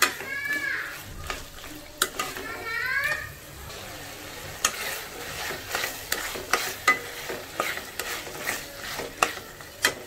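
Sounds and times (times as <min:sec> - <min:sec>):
prawns sizzling in a pan: 0:00.0 - 0:10.0
spatula scraping a pan: 0:00.0 - 0:10.0.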